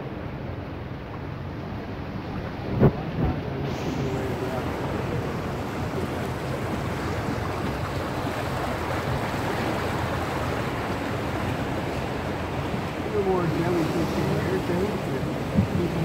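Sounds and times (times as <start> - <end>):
outboard motor rumble: 0.0 - 16.0
sea water washing: 0.0 - 16.0
wind on microphone: 1.5 - 16.0.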